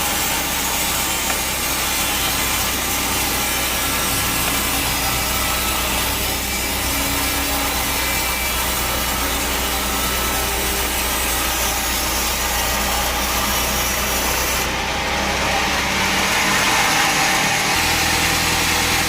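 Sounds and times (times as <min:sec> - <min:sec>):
band saw blade cutting log: 0:00.0 - 0:19.0.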